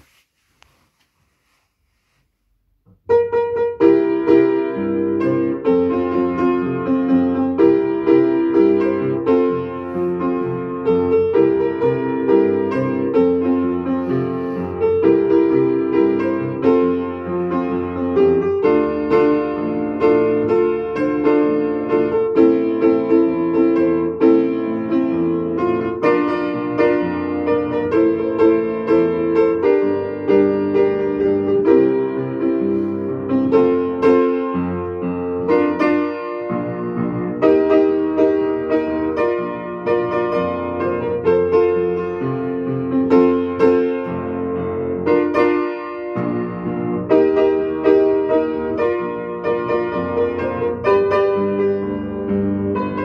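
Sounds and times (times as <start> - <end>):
solo piano chords: 2.7 - 53.0.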